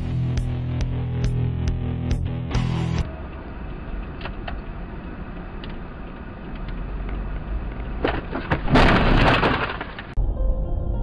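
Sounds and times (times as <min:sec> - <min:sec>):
car road noise rumble: 0:01.0 - 0:10.7.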